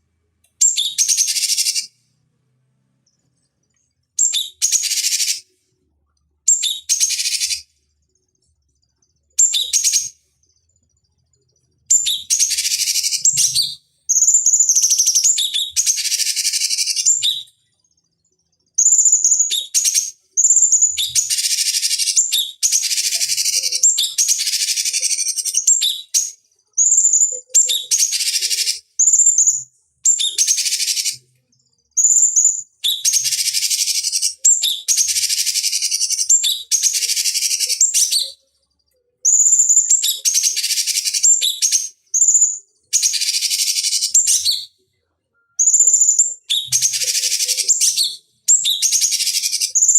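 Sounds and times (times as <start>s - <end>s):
bird song with rasping chatter: 0.5s - 2.0s, 3.0s - 5.8s, 6.5s - 49.9s.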